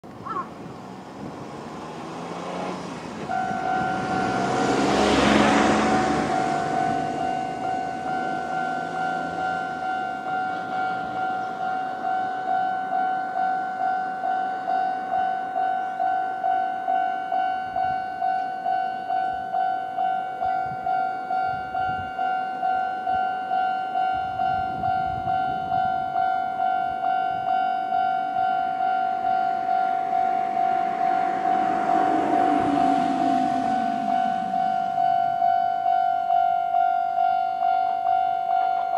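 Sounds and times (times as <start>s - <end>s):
level-crossing electronic bell ringing: 3.3s - 4.8s, 5.9s - 38.9s.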